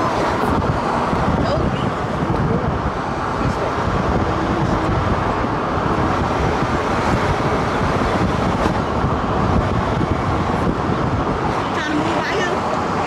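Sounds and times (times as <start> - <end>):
car road noise from inside: 0.0 - 13.0.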